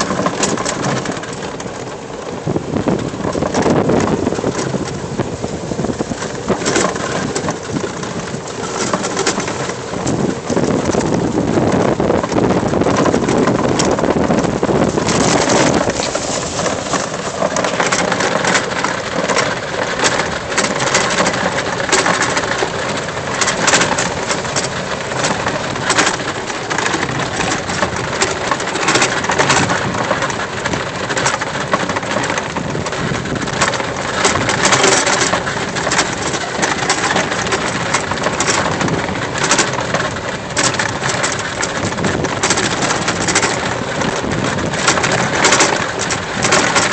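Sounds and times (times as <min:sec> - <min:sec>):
golf cart driving: 0:00.0 - 0:46.9
loose items rattling in cart: 0:00.0 - 0:46.9.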